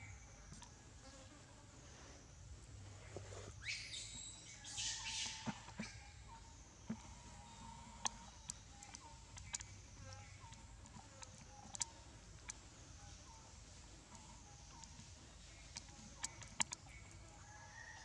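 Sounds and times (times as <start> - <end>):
faint chirps: 1.9 - 18.0.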